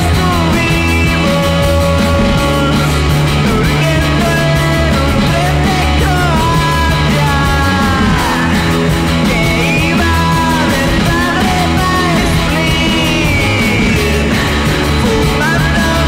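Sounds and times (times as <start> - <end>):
indie rock song: 0.0 - 16.0
man singing: 0.0 - 16.0.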